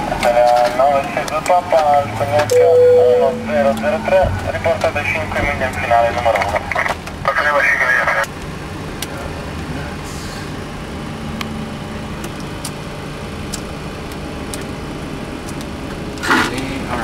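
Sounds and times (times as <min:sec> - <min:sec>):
aircraft cockpit hum: 0:00.0 - 0:16.2.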